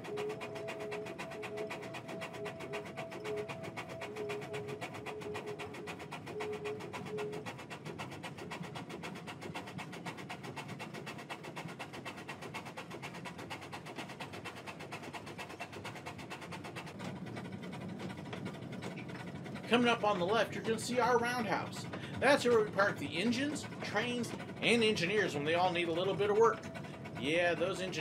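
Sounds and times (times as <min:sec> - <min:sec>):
steam train rhythmic beat: 0:00.0 - 0:28.0.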